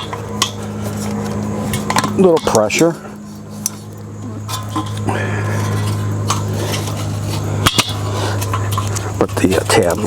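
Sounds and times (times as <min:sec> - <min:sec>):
metal grill parts clinking: 0:00.0 - 0:10.0
steady low hum: 0:00.0 - 0:10.0.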